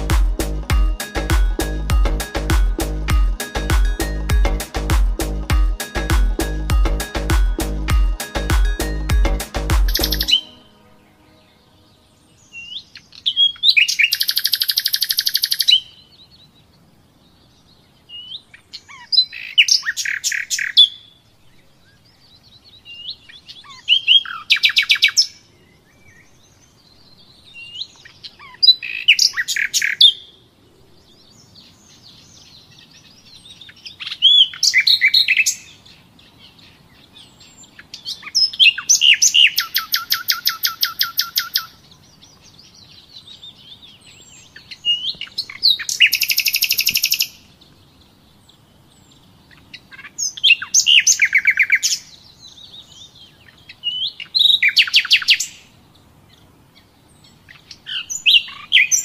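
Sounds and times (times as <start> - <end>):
songbird chirps and trills: 0.0 - 59.0.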